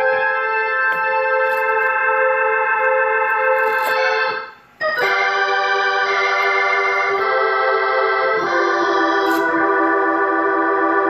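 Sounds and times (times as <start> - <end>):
organ chords through rotary speaker: 0.0 - 11.0.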